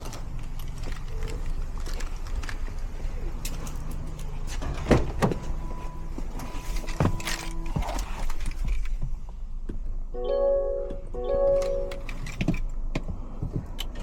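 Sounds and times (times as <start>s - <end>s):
vehicle running noise: 0.0s - 14.0s.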